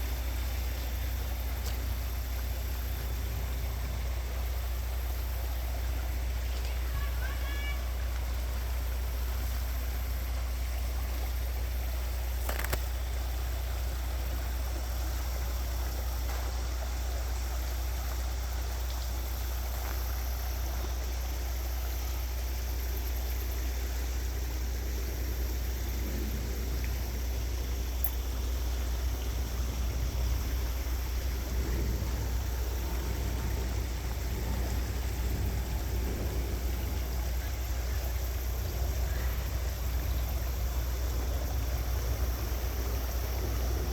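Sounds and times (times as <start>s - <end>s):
river flowing: 0.0s - 43.9s
steady low rumble: 0.0s - 43.9s.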